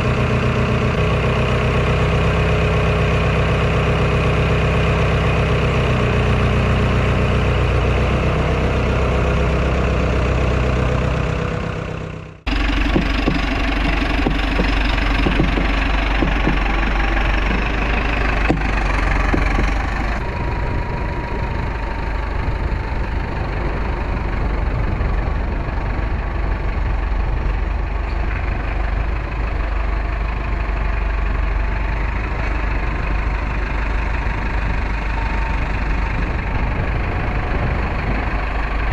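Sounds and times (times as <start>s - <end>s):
engine running steadily: 0.0s - 38.9s
rougher engine note: 0.0s - 38.9s.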